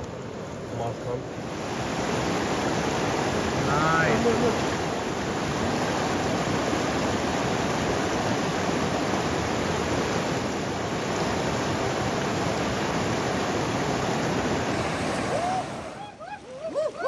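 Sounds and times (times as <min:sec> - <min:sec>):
river water rushing: 0:00.0 - 0:17.0
heavy rain: 0:01.1 - 0:16.1.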